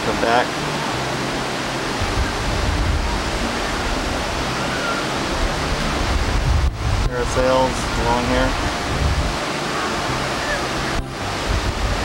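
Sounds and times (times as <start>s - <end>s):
breaking surf: 0.0s - 12.0s
wind: 0.0s - 12.0s
low rumble: 0.5s - 12.0s.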